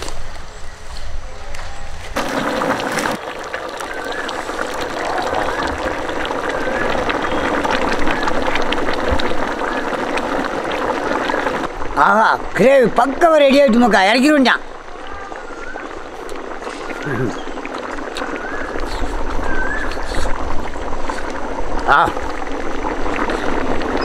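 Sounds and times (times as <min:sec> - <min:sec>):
gravy bubbling in a pot: 0:02.2 - 0:24.0.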